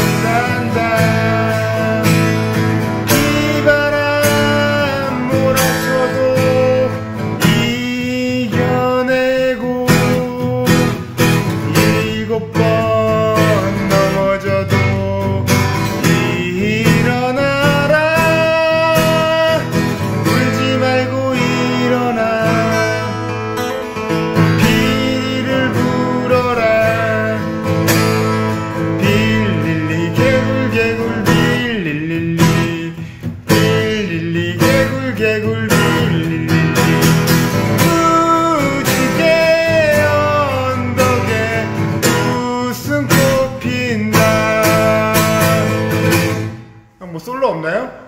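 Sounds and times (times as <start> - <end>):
acoustic guitar melody over chords: 0.0 - 47.0.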